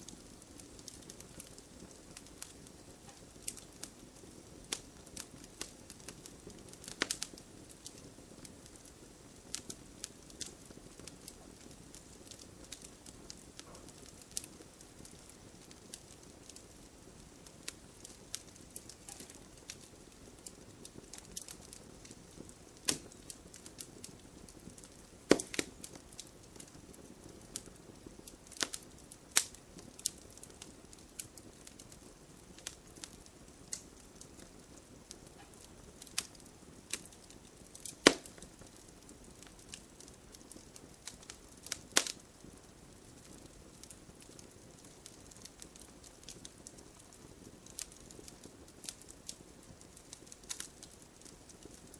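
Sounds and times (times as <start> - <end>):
soft fire hiss: 0.0 - 51.9
wood fire pops and snaps: 0.0 - 51.9.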